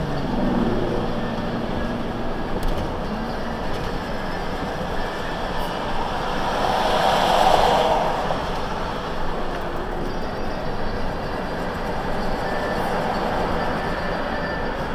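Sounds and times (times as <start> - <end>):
road and engine noise in cabin: 0.0 - 14.9.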